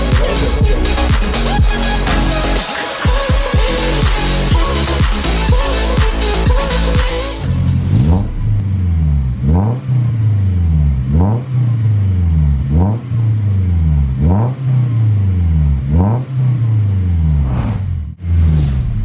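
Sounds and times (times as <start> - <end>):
engine revving through exhaust: 0.0 - 2.6, 3.6 - 19.0.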